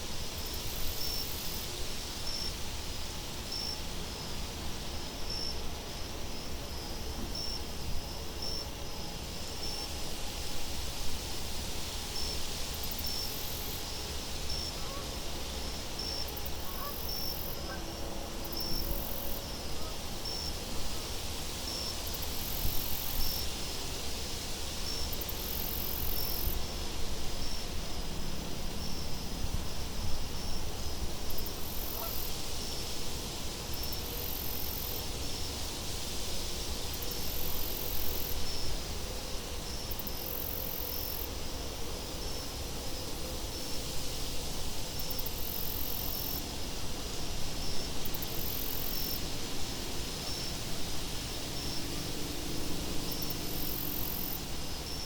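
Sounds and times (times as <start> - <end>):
wind with low rumble: 0.0 - 55.0.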